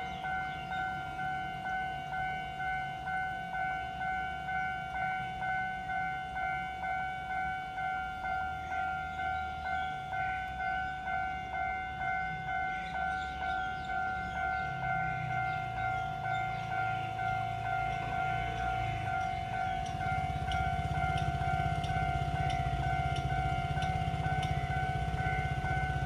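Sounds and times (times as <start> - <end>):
level crossing bell ringing: 0.0 - 26.0.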